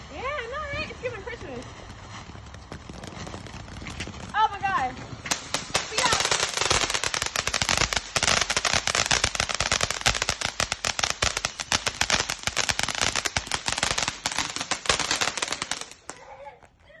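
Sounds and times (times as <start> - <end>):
fireworks cracking and popping: 0.0 - 17.0.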